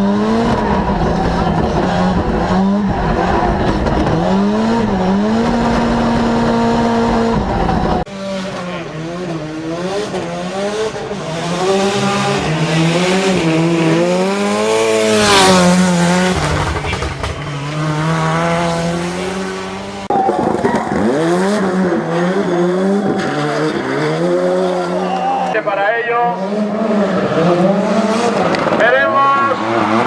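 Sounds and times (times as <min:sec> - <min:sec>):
rally car engine revving hard: 0:00.0 - 0:25.2, 0:26.0 - 0:30.0.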